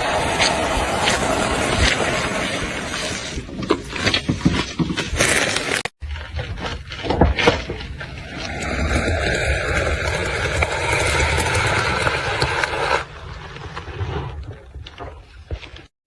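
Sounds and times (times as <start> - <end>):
objects crunching under car tyre: 0.0 - 15.9.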